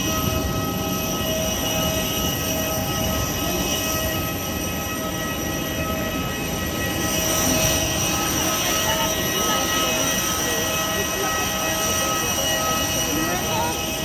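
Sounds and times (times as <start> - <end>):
jet airliner roar: 0.0 - 14.0.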